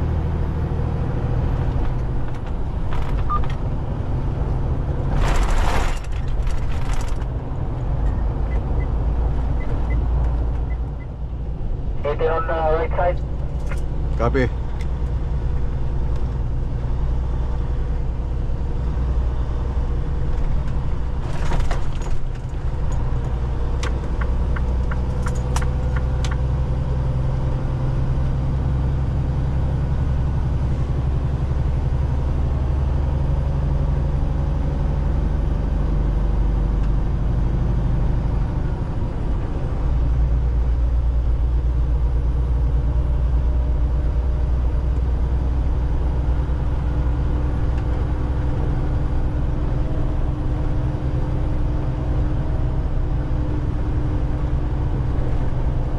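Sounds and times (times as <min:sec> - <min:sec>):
truck engine and road noise: 0:00.0 - 0:55.9.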